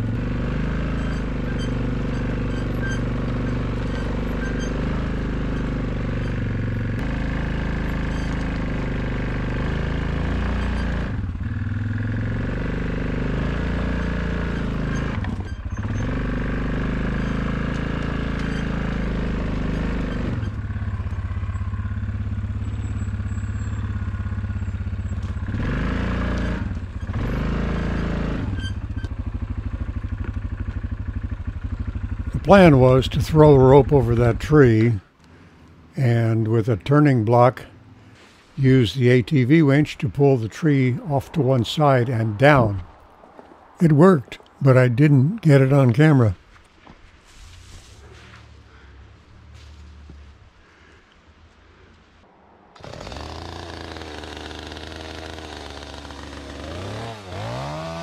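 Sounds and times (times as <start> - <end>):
atv engine revving: 0.0 - 43.0, 48.0 - 51.0, 52.8 - 58.0.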